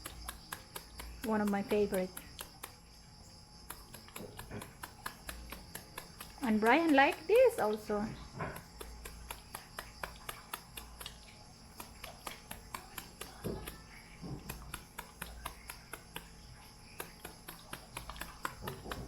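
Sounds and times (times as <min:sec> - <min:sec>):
knife chopping vegetables: 0:00.0 - 0:19.0.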